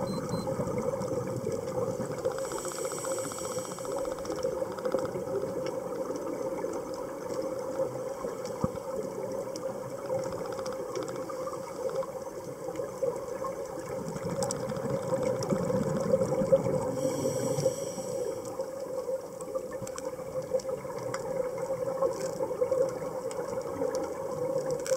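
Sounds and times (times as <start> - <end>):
faint underwater clicks: 0.0 - 24.9
underwater water noise: 0.0 - 24.9.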